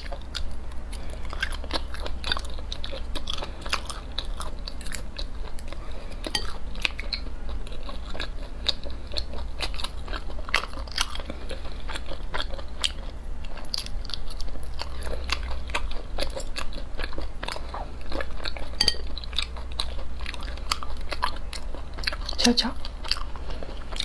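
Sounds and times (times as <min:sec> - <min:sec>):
low steady hum: 0:00.0 - 0:24.0
wet chewing: 0:00.0 - 0:24.0.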